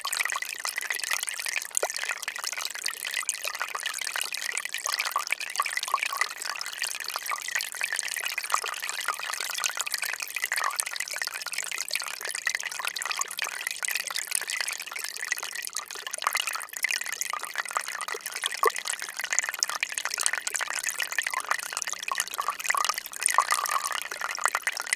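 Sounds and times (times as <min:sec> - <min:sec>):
water dripping and trickling: 0:00.0 - 0:24.9.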